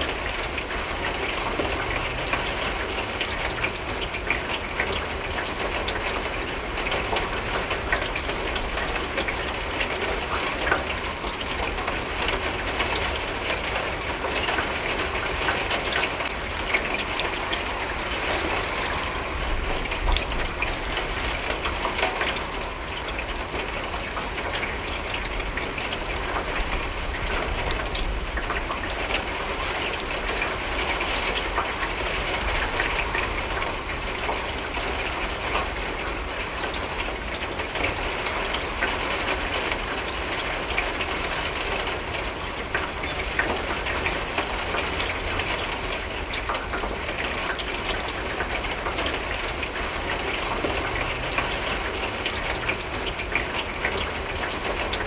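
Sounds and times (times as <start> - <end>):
rain hissing: 0.0 - 55.0
raindrops ticking on glass: 0.0 - 55.0.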